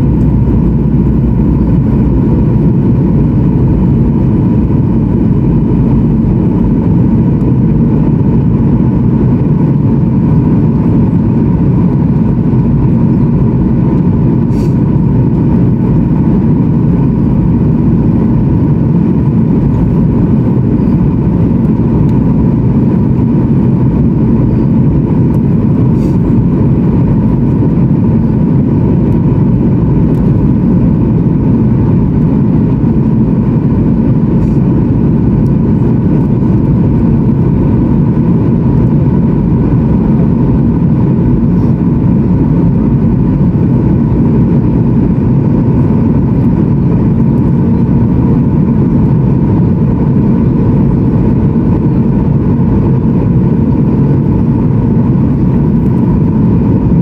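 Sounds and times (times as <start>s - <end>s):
jet engine and airflow rush: 0.0s - 57.0s
steady whine: 0.0s - 57.0s.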